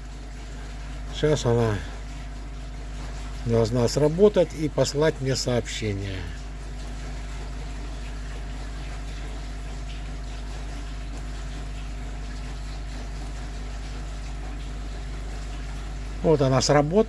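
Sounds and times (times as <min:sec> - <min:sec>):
hum of running equipment: 0:00.0 - 0:17.0
water noise: 0:00.0 - 0:17.0.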